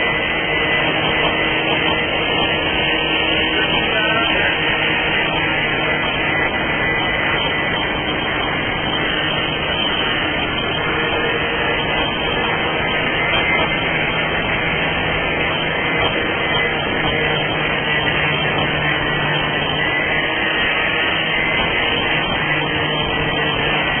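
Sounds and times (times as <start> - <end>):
power sander on fibreglass: 0.0 - 24.0.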